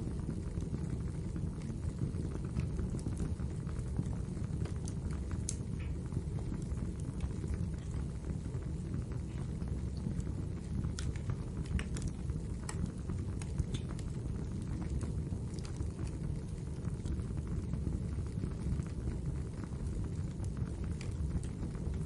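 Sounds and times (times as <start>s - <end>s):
fire crackles and pops: 0.0s - 22.0s
fire flames rumbling: 0.0s - 22.0s.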